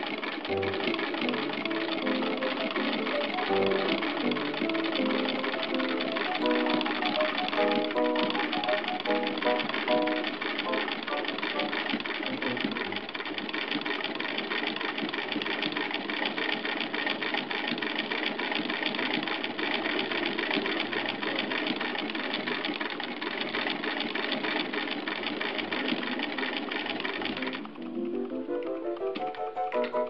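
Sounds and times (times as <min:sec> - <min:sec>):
hand-crank sewing machine clattering: 0:00.0 - 0:30.0.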